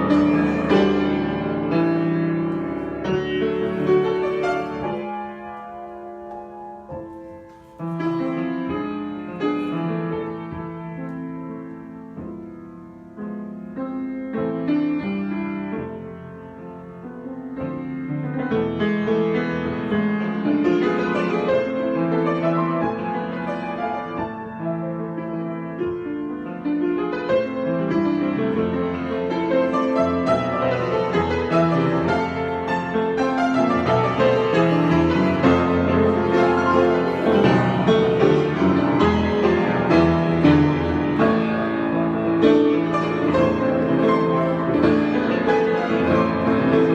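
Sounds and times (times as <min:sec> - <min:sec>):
solo piano improvisation: 0:00.0 - 0:46.9.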